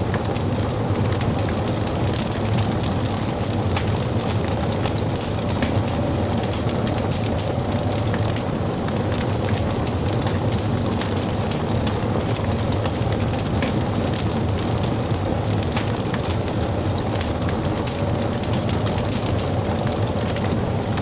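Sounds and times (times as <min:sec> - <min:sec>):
burning wood crackling: 0:00.0 - 0:21.0
low rumble of flames: 0:00.0 - 0:21.0.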